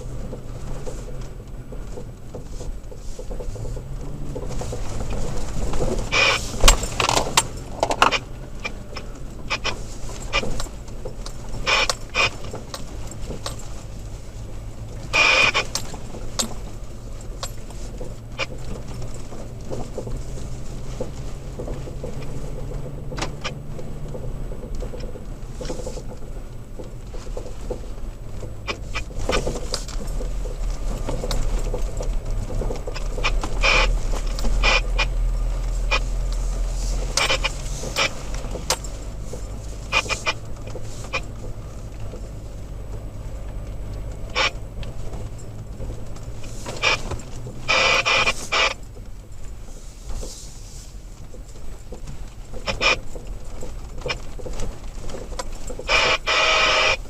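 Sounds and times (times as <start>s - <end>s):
engine and road rumble: 0.0s - 57.0s
knocks and rattles in cab: 0.0s - 57.0s.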